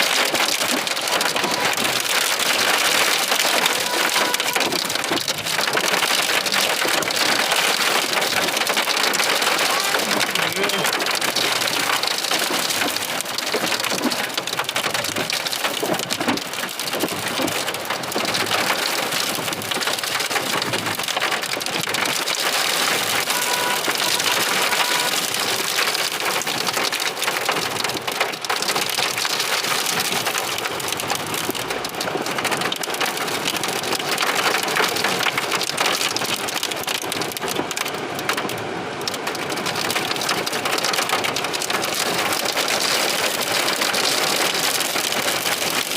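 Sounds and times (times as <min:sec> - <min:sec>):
heavy rain beating down: 0:00.0 - 0:45.9.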